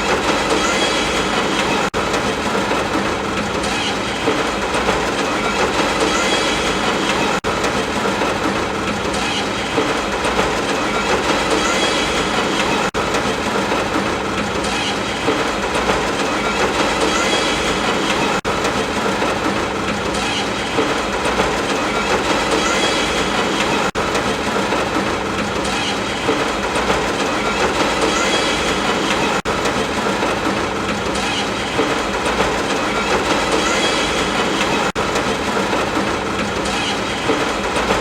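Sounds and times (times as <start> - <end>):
dense rain: 0.0 - 38.0.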